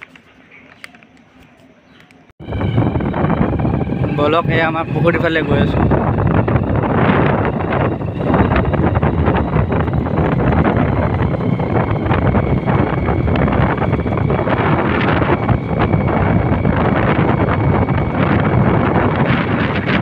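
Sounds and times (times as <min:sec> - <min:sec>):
wind buffeting microphone: 0:02.3 - 0:20.0.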